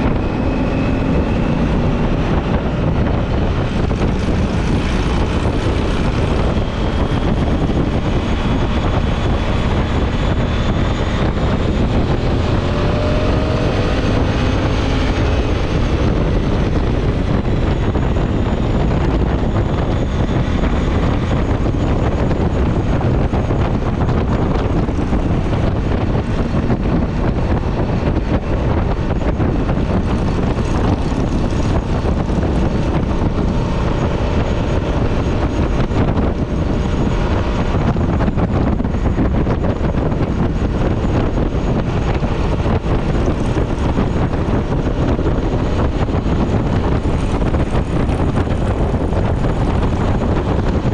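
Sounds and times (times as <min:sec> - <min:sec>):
faint rising whine: 0:00.0 - 0:50.9
motorcycle engine and tyre noise: 0:00.0 - 0:50.9
wind rush over microphone: 0:00.0 - 0:50.9.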